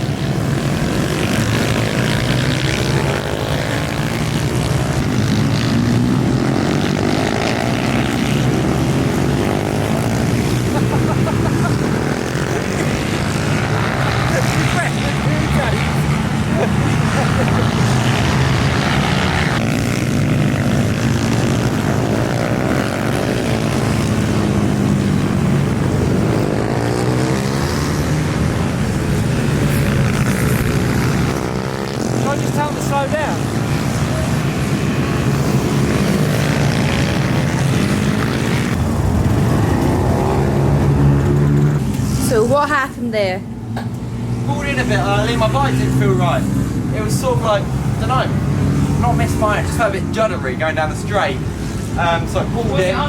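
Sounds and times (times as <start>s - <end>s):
pit bike engines at high revs: 0.0s - 53.0s.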